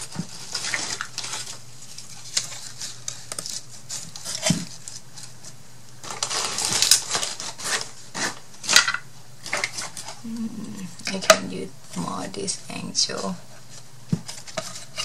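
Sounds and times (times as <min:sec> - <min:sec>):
rustling of craft items: 0:00.0 - 0:15.0.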